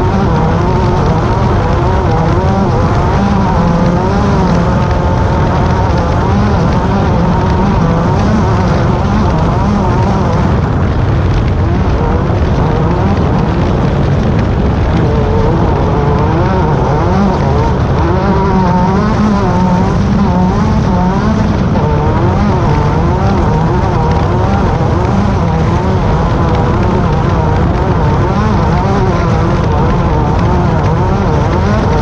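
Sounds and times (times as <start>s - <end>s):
race car engine running hard: 0.0s - 32.0s.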